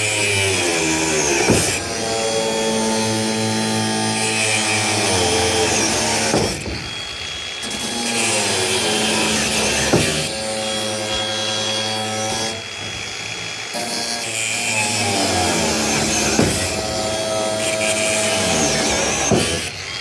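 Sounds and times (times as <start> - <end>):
power saw cutting: 0.0 - 20.0.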